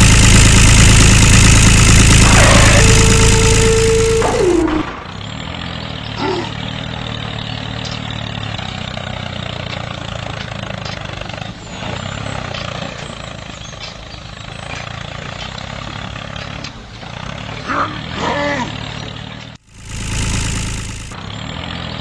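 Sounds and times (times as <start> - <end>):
tractor motor humming: 0.0 - 17.4, 18.8 - 22.0.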